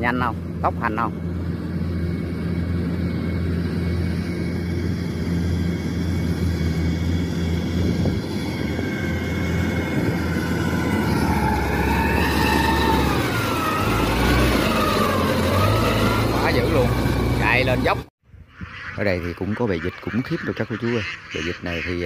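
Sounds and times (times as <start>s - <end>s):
vehicle engine running: 0.0s - 18.1s
whining tone: 0.0s - 18.1s.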